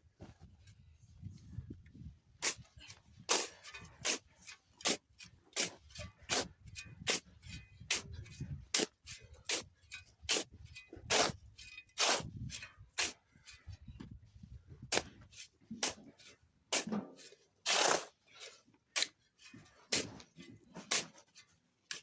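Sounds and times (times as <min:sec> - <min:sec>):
hand tool scraping mortar: 0:02.4 - 0:13.7, 0:14.9 - 0:22.0.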